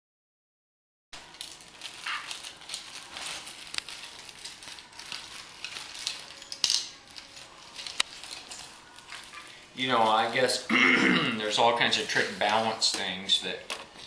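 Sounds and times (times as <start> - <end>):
rustling and crinkling: 1.2 - 10.6, 11.4 - 14.0.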